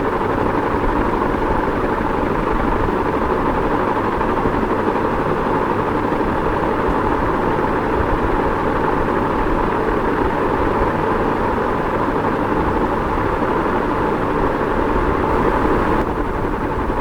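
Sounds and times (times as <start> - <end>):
ceiling fan rushing air: 0.0 - 17.0.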